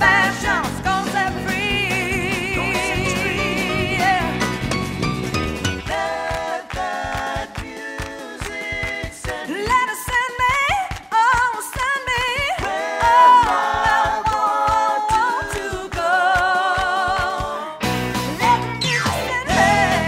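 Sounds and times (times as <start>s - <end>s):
voices singing together: 0.0s - 17.8s, 19.3s - 20.0s.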